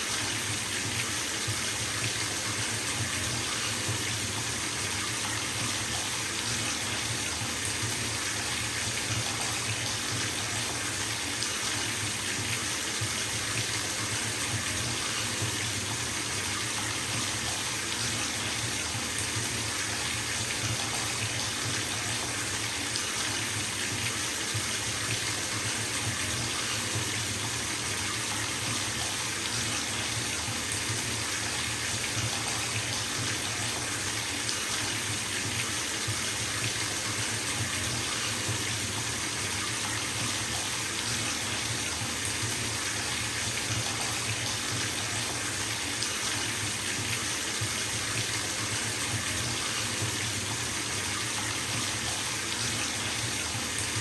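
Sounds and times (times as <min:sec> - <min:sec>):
water running into bathtub: 0:00.0 - 0:54.0.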